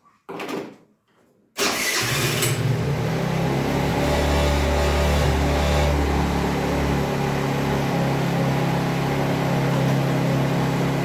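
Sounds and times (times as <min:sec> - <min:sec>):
scooter engine running: 0:01.6 - 0:11.0.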